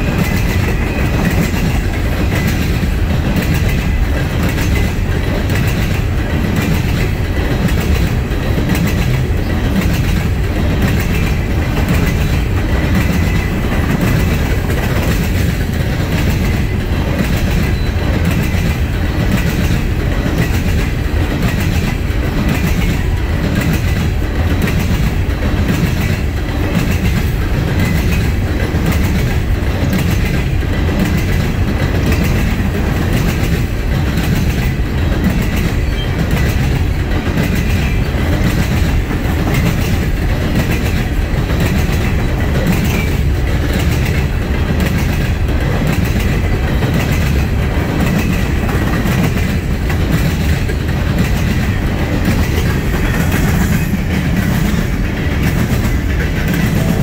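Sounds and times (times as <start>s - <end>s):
clickety-clack of wheel sets: 0.0s - 57.0s
steel wheels rumbling on rail: 0.0s - 57.0s.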